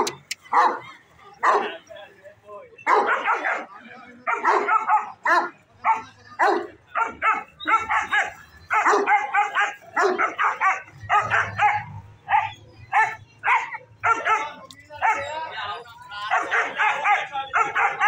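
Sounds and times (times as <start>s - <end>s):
dog barking: 0.0s - 1.8s, 2.8s - 3.7s, 4.3s - 15.4s, 16.3s - 18.0s.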